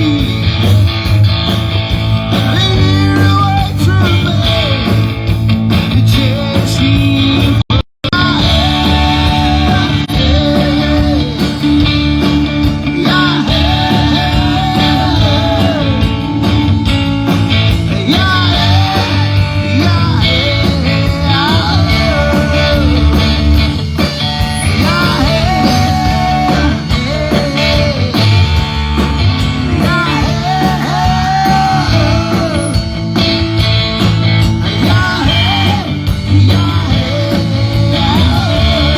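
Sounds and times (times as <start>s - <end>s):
lead singer singing: 0.0s - 0.8s, 2.2s - 5.2s, 5.8s - 38.9s
live rock band playing: 0.0s - 38.9s.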